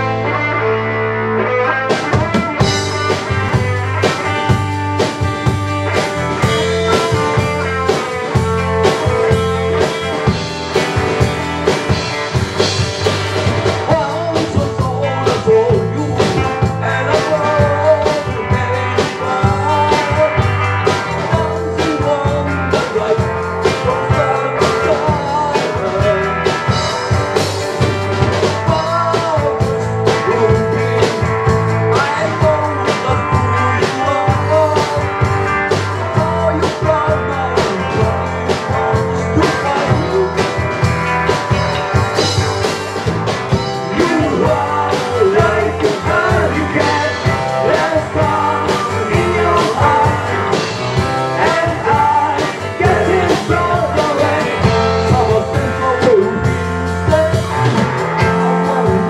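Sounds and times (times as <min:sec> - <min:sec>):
drum kit steady beat: 0:01.9 - 0:59.0.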